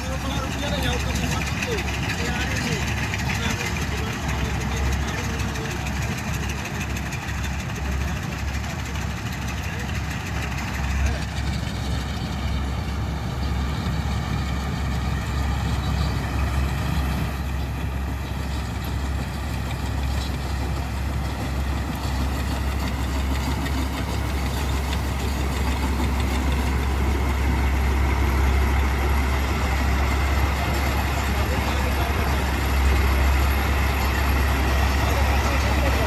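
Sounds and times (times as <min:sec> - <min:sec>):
combine harvester engine hum: 0:00.0 - 0:36.0
machinery whining: 0:00.0 - 0:36.0.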